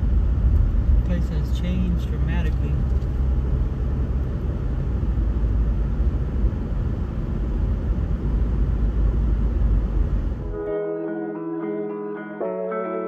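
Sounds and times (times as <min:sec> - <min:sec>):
car engine and road noise: 0:00.0 - 0:10.7.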